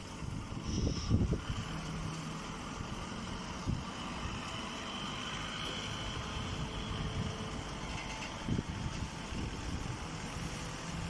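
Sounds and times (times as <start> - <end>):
faint mechanical whine: 0.0 - 11.0
hay baler mechanical drone: 0.0 - 11.0.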